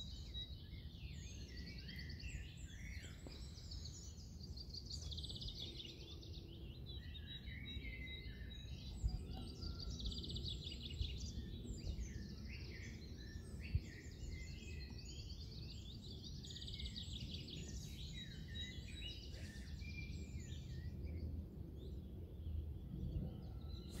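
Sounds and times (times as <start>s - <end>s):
small songbirds singing: 0.0s - 24.0s.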